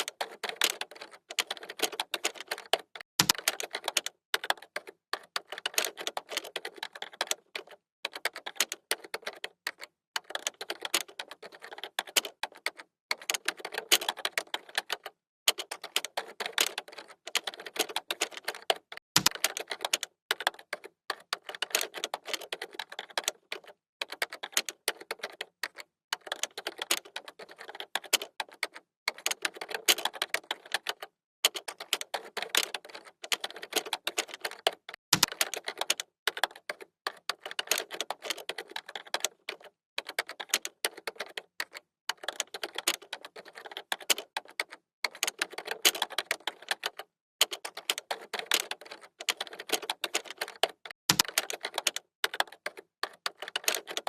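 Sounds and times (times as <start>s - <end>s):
computer keyboard typing: 0.0s - 54.0s.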